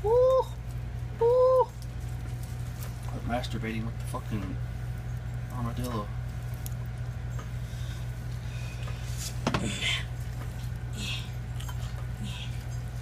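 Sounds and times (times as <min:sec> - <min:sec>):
steady low hum: 0:00.0 - 0:13.0
wet squishing and rustling of food: 0:00.6 - 0:13.0.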